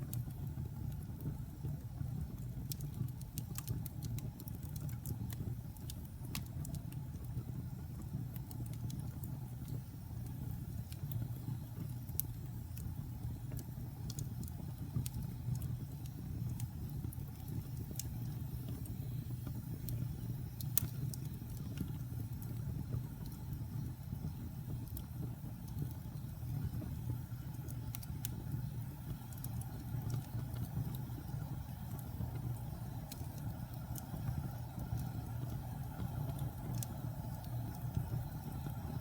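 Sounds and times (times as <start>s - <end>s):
fire crackles and pops: 0.0s - 39.0s
fire rumbling: 0.0s - 39.0s.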